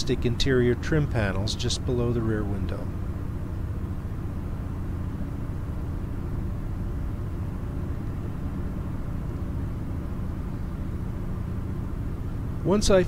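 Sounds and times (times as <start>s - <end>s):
engine and road rumble in cab: 0.0s - 13.0s.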